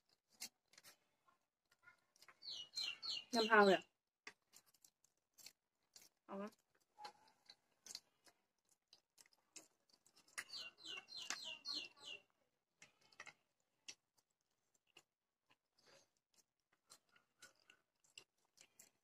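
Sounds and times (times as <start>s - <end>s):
quiet chewing: 0.0s - 3.2s, 4.2s - 19.0s.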